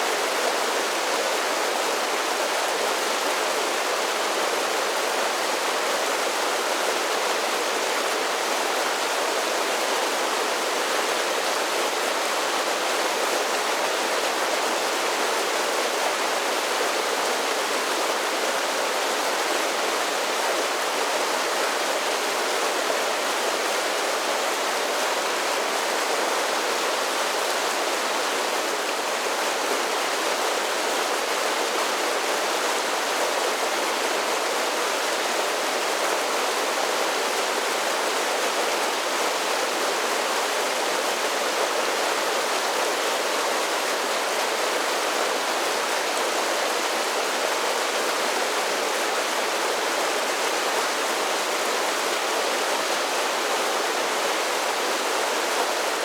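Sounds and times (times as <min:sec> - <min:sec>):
creek water splashing over falls: 0:00.0 - 0:56.0.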